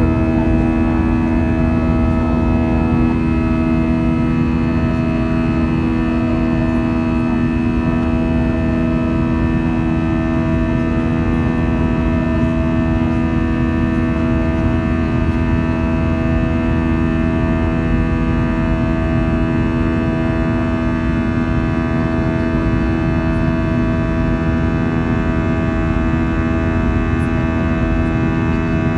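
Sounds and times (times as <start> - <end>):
jet engines humming: 0.0 - 28.9.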